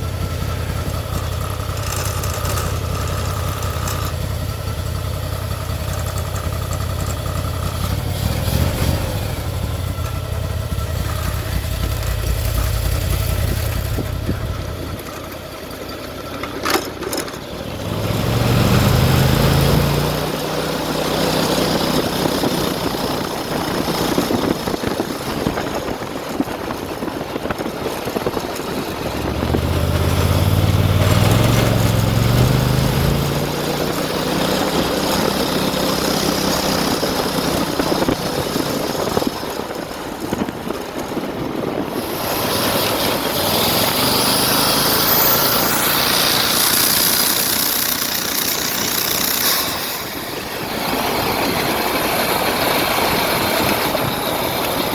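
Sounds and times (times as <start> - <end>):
go kart engine revving: 0.0 - 54.9.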